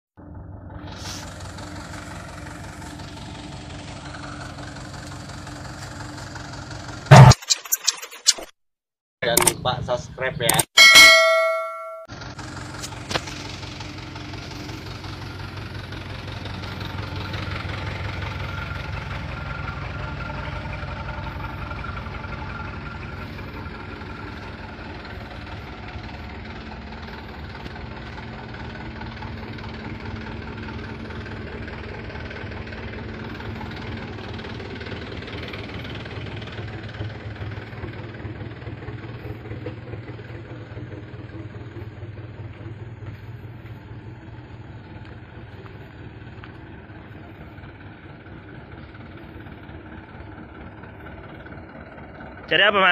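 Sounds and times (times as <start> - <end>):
diesel engine running: 0.2 - 7.4, 11.4 - 52.9.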